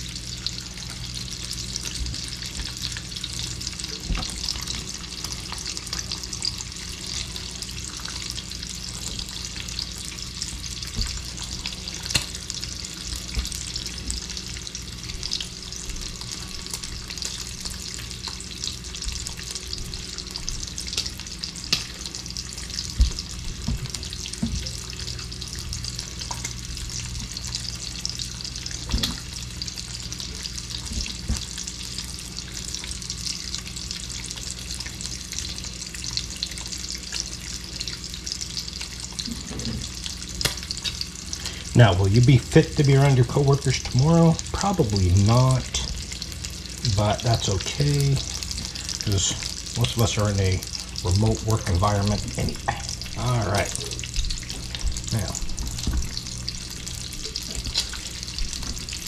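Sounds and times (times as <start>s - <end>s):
bacon sizzling and crackling: 0.0s - 59.0s.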